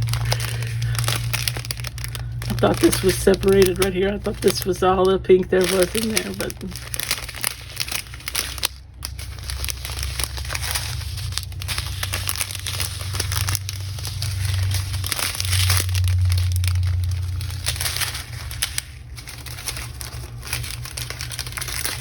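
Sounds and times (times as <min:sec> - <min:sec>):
plastic bags crinkling: 0:00.0 - 0:22.0
steady low hum: 0:00.0 - 0:22.0.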